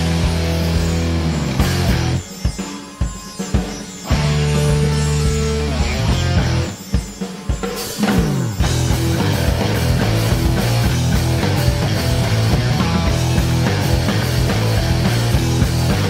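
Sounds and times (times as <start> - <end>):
rock music with drums and guitar: 0.0 - 16.0.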